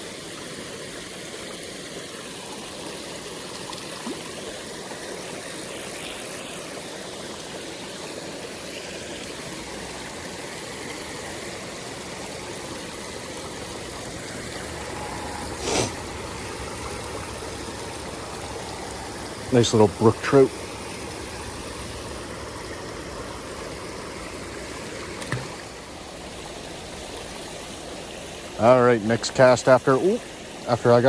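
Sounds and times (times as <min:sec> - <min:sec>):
stream water running: 0:00.0 - 0:31.0.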